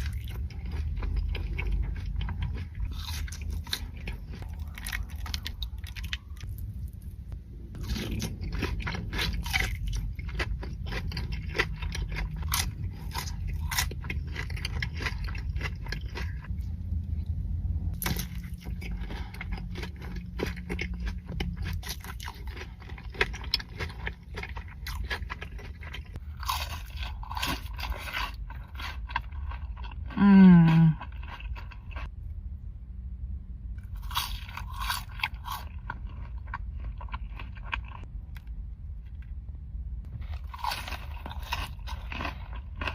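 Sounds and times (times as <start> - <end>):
crunching and wet chewing: 0.0 - 17.3, 17.9 - 32.2, 33.8 - 39.3, 40.1 - 42.9.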